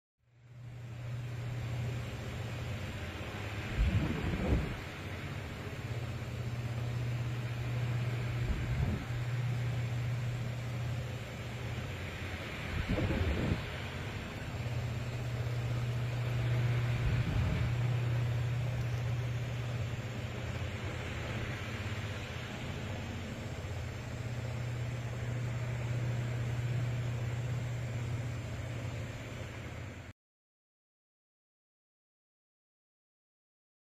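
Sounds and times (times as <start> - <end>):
ceiling fan motor hum: 0.3 - 30.1
air rushing from fan blades: 0.6 - 30.1.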